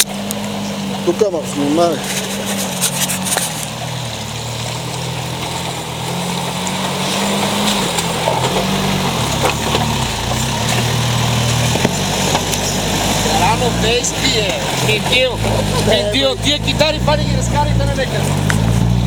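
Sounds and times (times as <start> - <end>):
engine running under load: 0.0 - 19.0.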